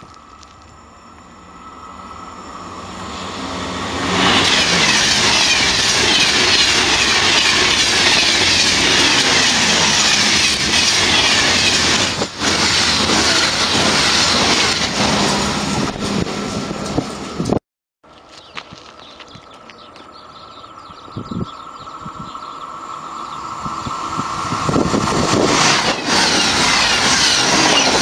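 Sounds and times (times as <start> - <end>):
high-speed train passing: 0.0 - 17.6, 19.5 - 28.0.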